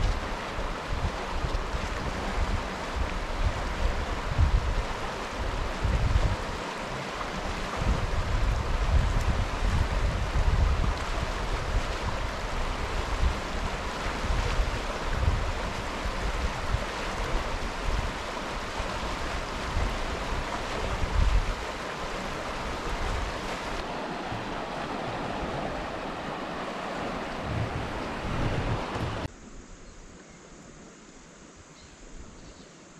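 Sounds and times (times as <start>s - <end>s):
water rushing over rocks: 0.0s - 29.3s
wind buffeting microphone: 0.0s - 29.3s.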